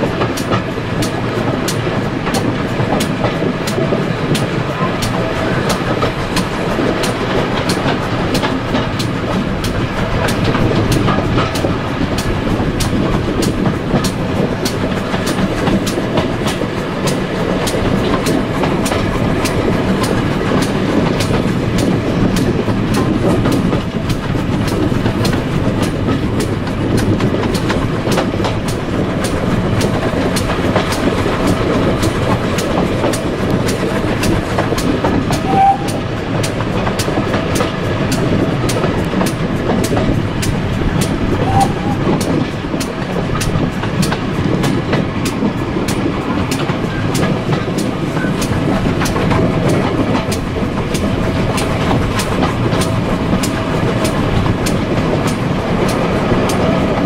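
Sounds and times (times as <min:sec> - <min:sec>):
train running rumble: 0:00.0 - 0:57.0
wheels clicking over rail joints: 0:00.0 - 0:57.0.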